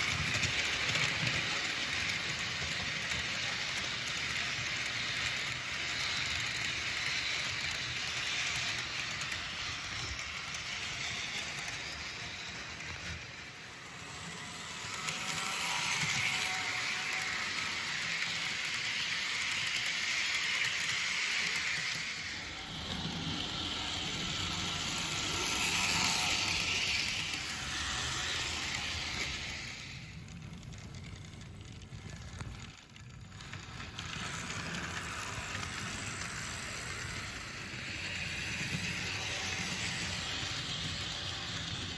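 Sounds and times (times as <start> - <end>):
hiss of wheels on rail: 0.0 - 30.5, 33.3 - 41.9.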